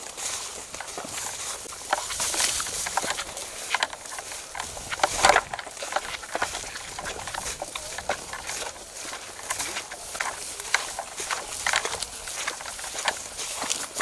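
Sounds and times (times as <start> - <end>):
footsteps crunching through straw: 0.0 - 14.0.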